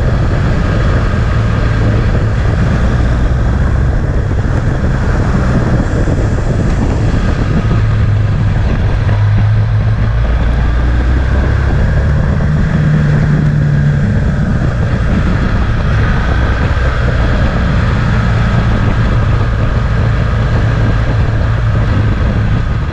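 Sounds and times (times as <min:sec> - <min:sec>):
motorcycle engine at riding speed: 0:00.0 - 0:22.9
wind buffeting microphone: 0:00.0 - 0:22.9.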